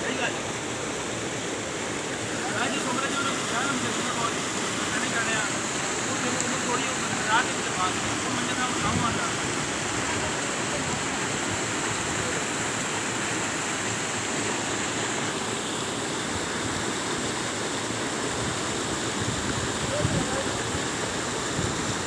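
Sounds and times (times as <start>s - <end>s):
waterfall pouring into pool: 0.0s - 22.0s.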